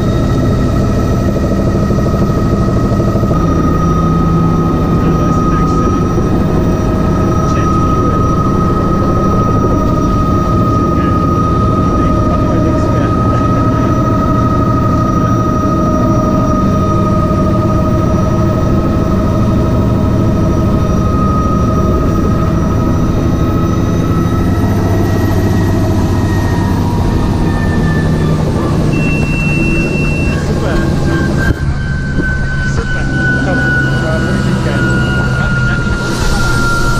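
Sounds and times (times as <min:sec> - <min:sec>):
helicopter rotor thrum: 0:00.0 - 0:36.9
turbine whine: 0:00.0 - 0:36.9.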